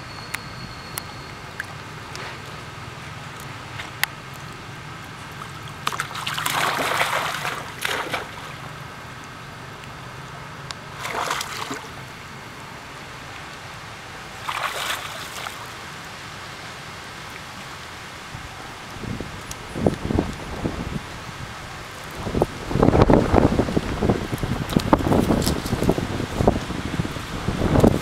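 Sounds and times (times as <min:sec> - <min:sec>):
water splashing and sloshing: 0:01.0 - 0:28.0.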